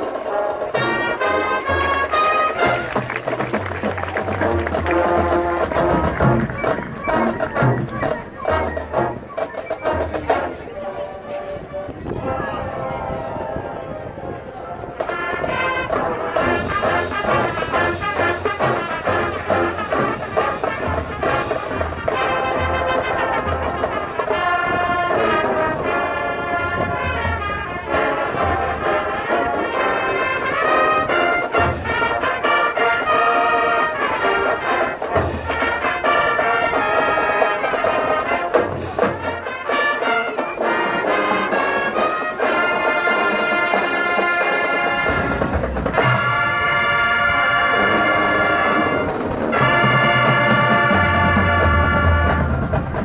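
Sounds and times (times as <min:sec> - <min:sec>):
marching band brass chords: 0:00.0 - 0:53.0.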